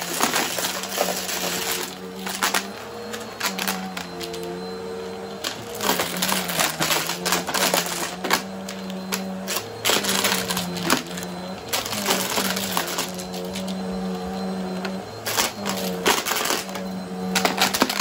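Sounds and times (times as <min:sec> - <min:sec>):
vacuum cleaner humming: 0:00.0 - 0:18.0.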